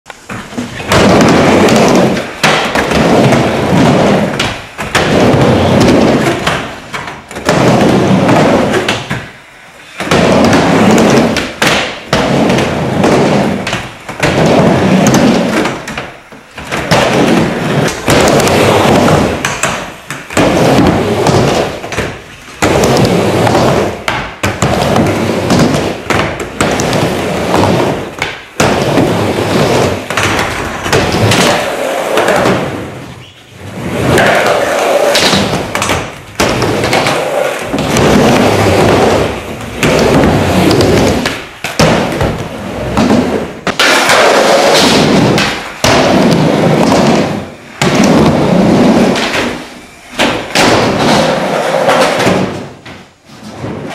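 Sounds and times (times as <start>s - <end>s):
skateboard clacks and thuds: 0.1s - 53.9s
skateboard wheels rolling on ramp: 0.2s - 53.9s.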